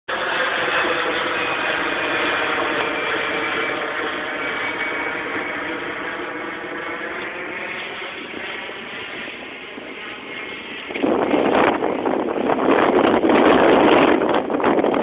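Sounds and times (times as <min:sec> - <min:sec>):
jet airliner passing overhead: 0:00.1 - 0:15.0.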